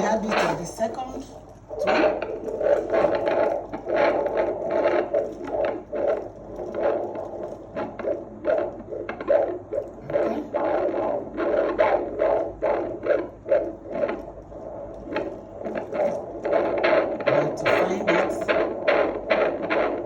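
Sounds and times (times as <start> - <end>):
fetal heartbeat on doppler speaker: 0.0 - 20.0.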